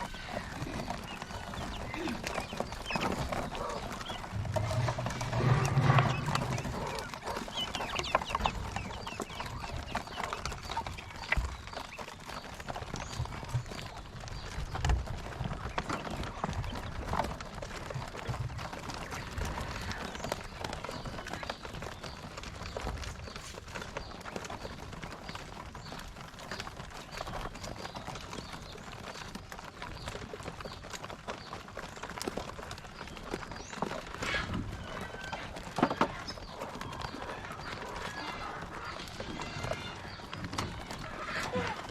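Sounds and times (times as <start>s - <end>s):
quail chirping and calling: 0.0s - 31.9s, 32.6s - 41.9s.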